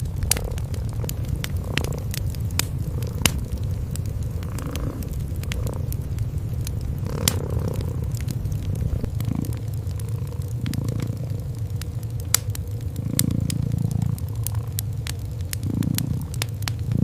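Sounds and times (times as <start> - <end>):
cats purring: 0.0 - 17.0
wood fire crackling: 0.0 - 17.0.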